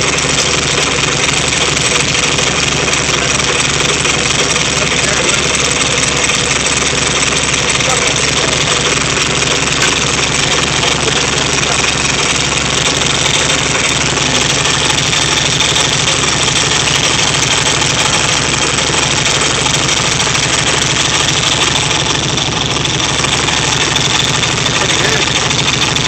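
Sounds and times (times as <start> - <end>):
car engine running steadily: 0.0 - 26.0.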